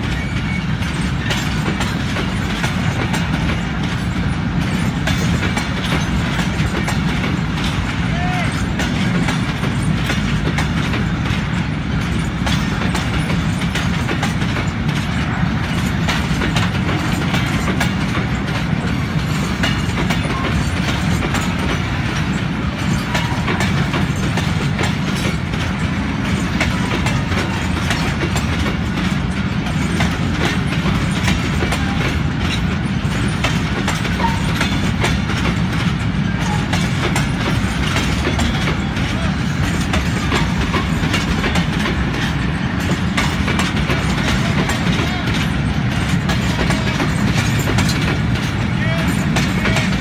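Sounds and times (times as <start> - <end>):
freight train rumbling past: 0.0 - 50.0
train wheels clacking on rail joints: 0.0 - 50.0.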